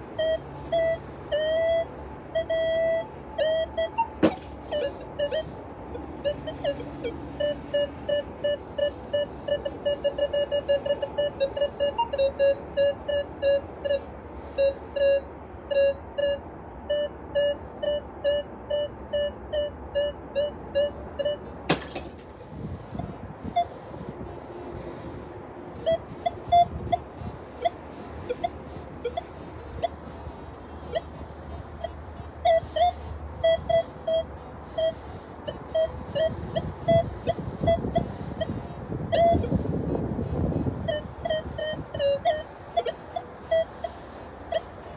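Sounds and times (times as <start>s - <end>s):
metal detector short beeps: 0.2s - 24.1s, 24.8s - 27.0s, 27.6s - 30.0s, 31.8s - 39.6s.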